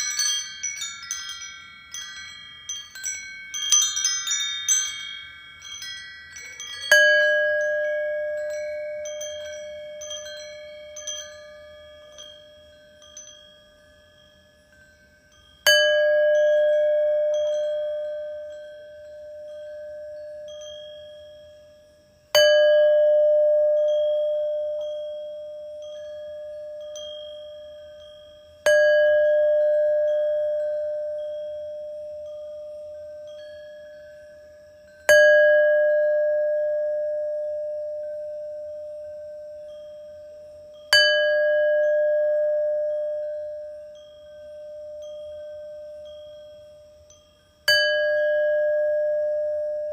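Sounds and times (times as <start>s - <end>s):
meditation bell ringing: 0.0s - 49.9s
wind chimes tinkling: 0.0s - 49.9s.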